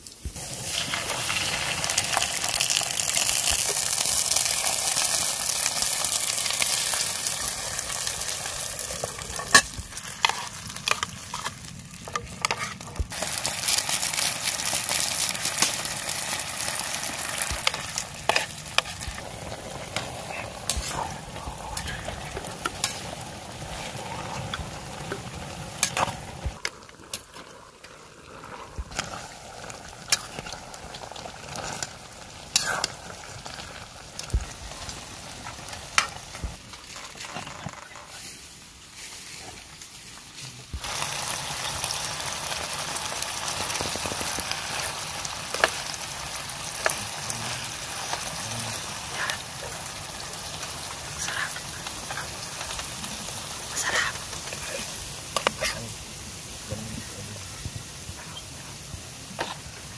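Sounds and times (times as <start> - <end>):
fish frying in a mess tin: 0.0 - 59.9.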